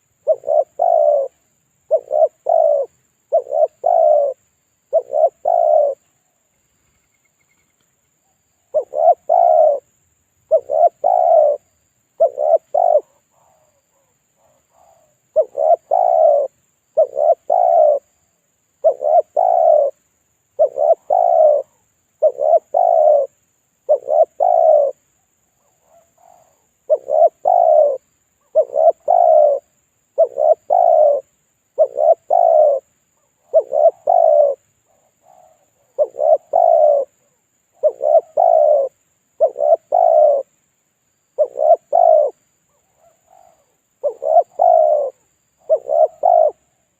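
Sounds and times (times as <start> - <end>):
dove cooing: 0.0 - 6.0, 8.6 - 9.9, 10.5 - 18.2, 18.8 - 25.0, 25.6 - 40.5, 41.4 - 46.9.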